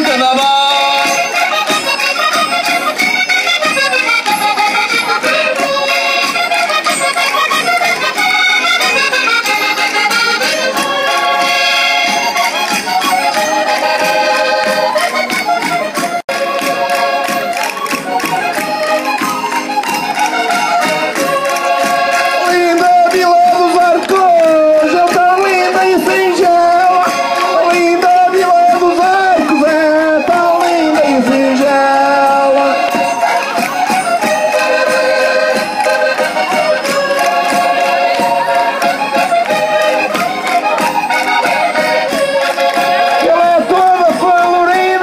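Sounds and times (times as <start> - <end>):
accordion playing lively tune: 0.0 - 45.0
steady percussion beat: 0.0 - 45.0.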